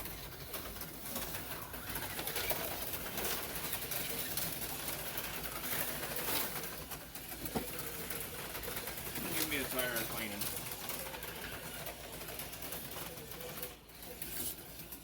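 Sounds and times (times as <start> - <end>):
slot cars whirring: 0.0 - 15.0.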